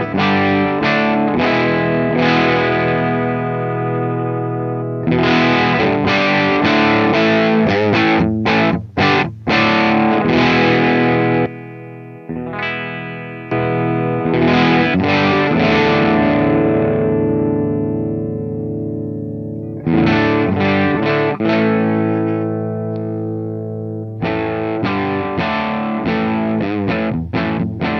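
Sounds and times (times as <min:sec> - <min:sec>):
distorted electric guitar chords: 0:00.0 - 0:27.9.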